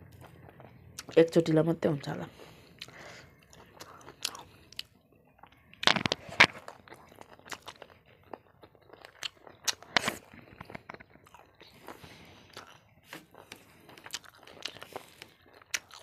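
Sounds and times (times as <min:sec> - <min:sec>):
chewing and crunching: 0:00.0 - 0:01.5, 0:02.2 - 0:16.0.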